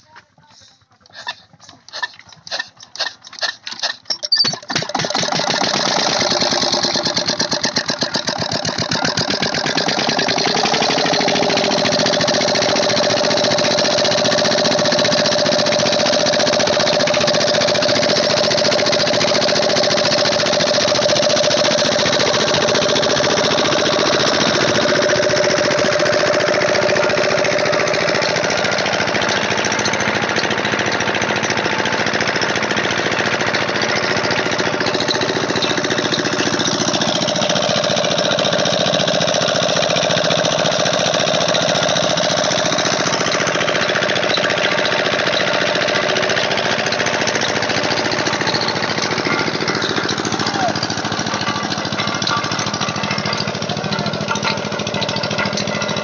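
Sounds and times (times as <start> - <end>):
engine starting and chugging: 0.0 - 56.0.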